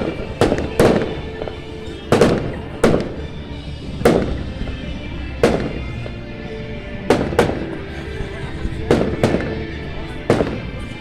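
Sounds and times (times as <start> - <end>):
fireworks bangs echoing: 0.0 - 6.2, 6.9 - 10.9.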